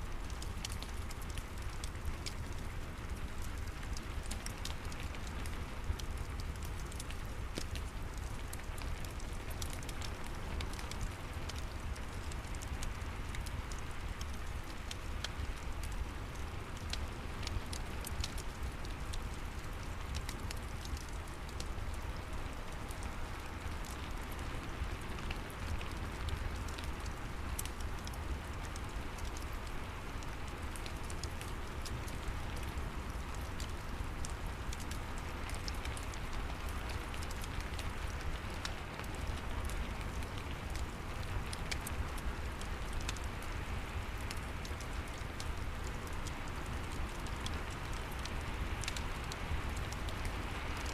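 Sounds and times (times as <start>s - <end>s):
fire crackling: 0.0s - 50.9s
steady rain: 0.0s - 50.9s.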